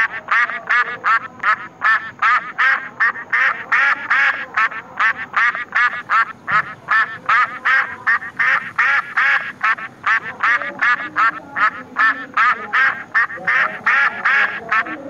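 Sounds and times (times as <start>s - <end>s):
duck quacking: 0.0s - 15.0s.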